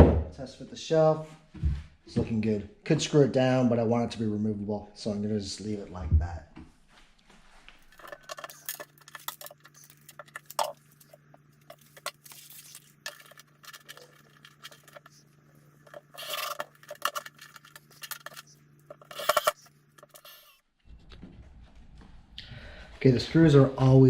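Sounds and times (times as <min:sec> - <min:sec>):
faint steady hum: 0:00.2 - 0:24.0.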